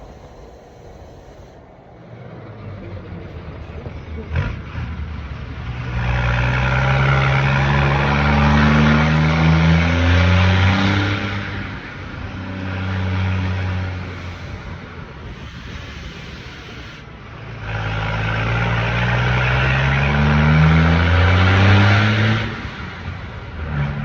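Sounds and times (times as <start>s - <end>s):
truck diesel engine revving: 0.0s - 24.0s.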